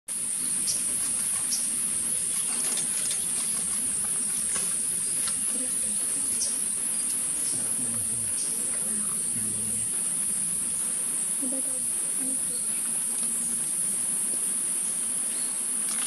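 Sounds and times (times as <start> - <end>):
insects droning: 0.1 - 16.0.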